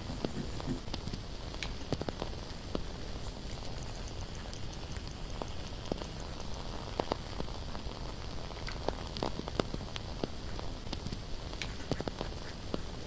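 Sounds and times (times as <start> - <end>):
candle crackling: 0.0 - 13.0
low background hiss: 0.0 - 13.0.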